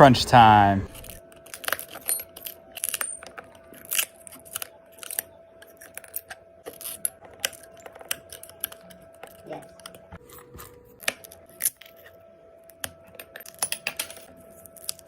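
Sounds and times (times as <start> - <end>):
glass clicks and crackles: 1.0 - 15.0.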